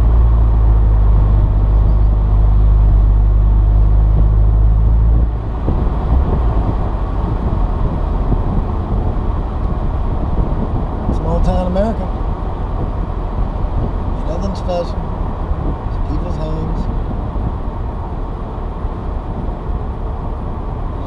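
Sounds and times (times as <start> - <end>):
car engine drone: 0.0 - 21.0
road and wind noise: 0.0 - 21.0
tyres rumbling on road: 0.0 - 21.0.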